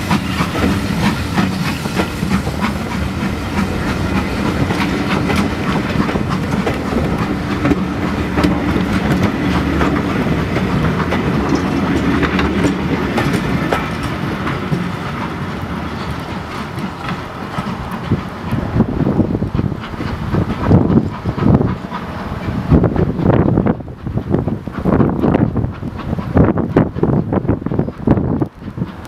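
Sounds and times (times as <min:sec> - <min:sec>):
train rumble: 0:00.0 - 0:29.0
train wheels clicking over rail joints: 0:00.0 - 0:29.0.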